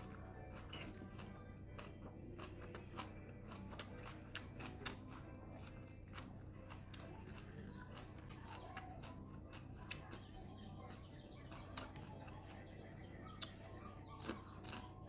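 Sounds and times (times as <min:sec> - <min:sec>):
crunchy chewing: 0:00.0 - 0:15.0
faint low hum: 0:00.0 - 0:15.0.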